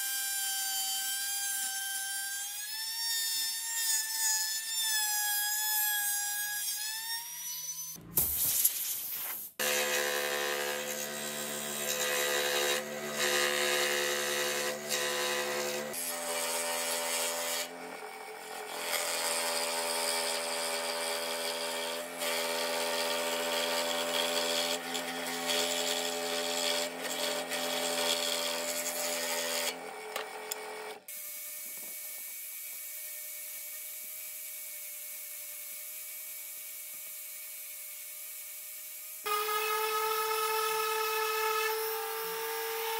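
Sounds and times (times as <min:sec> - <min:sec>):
scroll saw cutting wood: 0:00.0 - 0:42.9.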